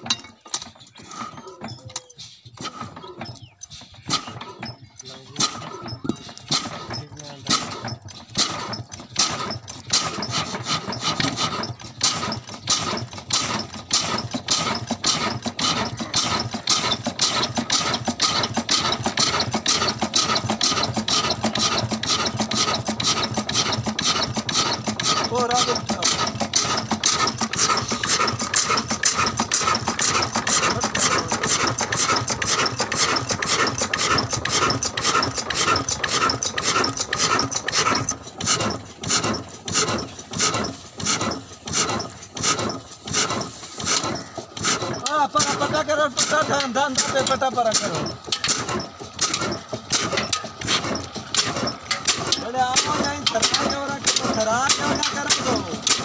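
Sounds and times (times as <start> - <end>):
single-cylinder diesel engine running: 0.0 - 56.0.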